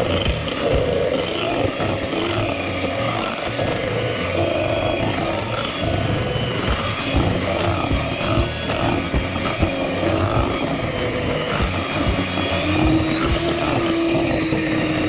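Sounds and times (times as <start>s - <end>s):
electric hand mixer running: 0.0s - 15.0s.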